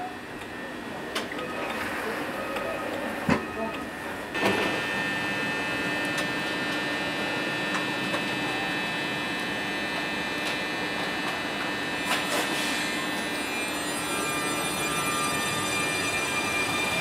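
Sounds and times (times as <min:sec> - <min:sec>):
tram electrical hum: 0:00.0 - 0:17.0.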